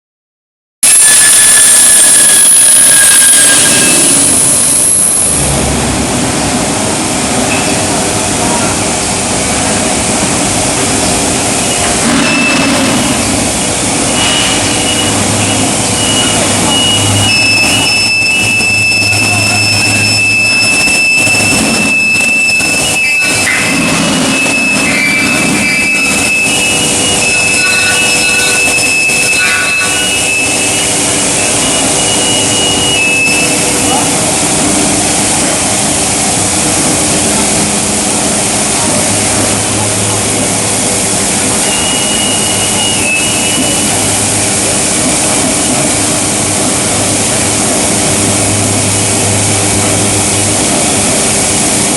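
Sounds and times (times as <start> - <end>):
high-pitched whines: 0.8 - 6.3, 11.0 - 51.9
industrial machine noise: 0.8 - 51.9.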